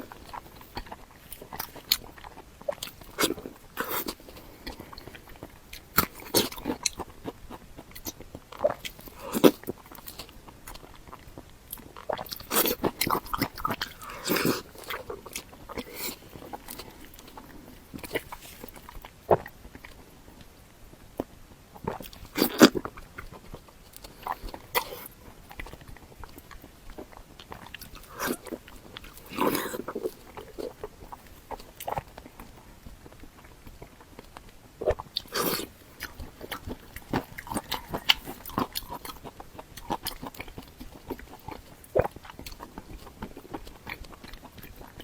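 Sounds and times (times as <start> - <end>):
biting and chewing: 0.0 - 45.0.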